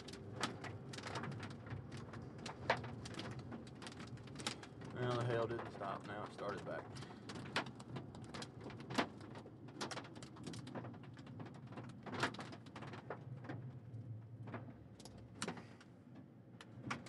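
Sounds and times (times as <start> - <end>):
hailstones ticking on a vehicle: 0.0 - 15.8.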